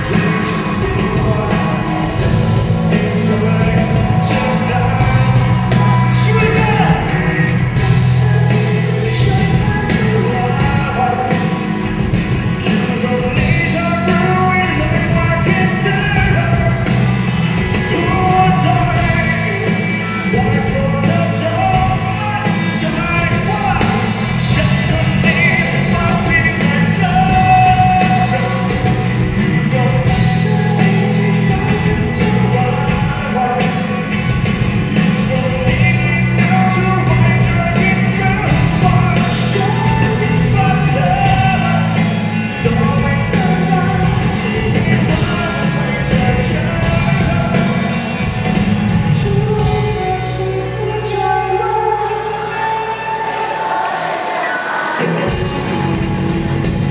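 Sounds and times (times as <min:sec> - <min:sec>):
man singing: 0:00.0 - 0:56.9
rock band playing: 0:00.0 - 0:56.9.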